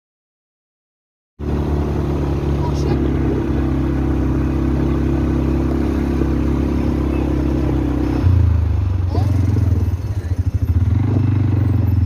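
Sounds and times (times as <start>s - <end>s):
quad bike engine running: 1.4s - 12.0s.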